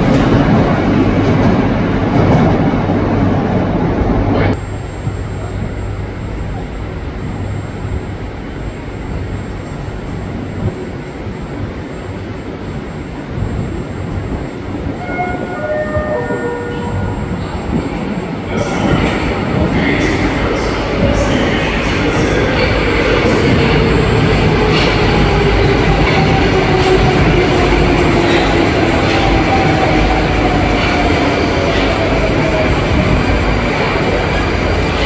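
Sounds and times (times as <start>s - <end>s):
metro train rumbling: 0.0s - 35.0s
descending beeping tones: 4.6s - 34.2s.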